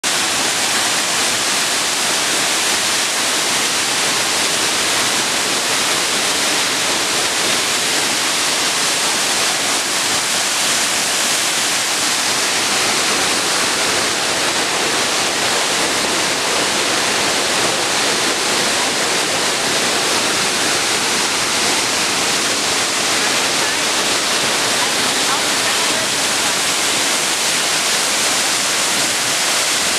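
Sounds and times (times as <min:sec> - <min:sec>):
waterfall pouring: 0:00.0 - 0:29.9.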